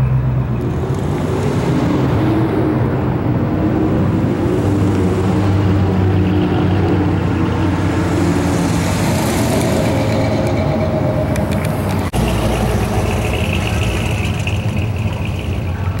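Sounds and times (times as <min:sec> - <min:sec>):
car engine driving past: 0:00.0 - 0:16.0
deep pickup truck engine: 0:00.0 - 0:16.0.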